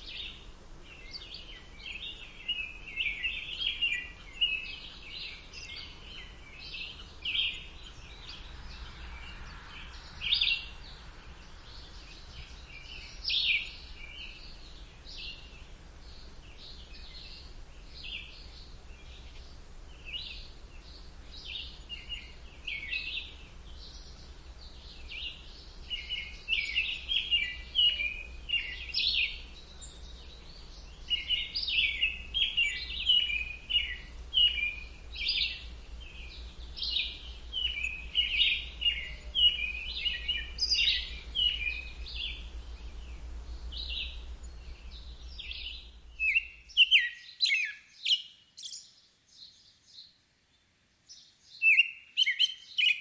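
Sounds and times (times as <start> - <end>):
low background rumble: 0.0 - 46.8
songbirds chirping: 0.0 - 53.0.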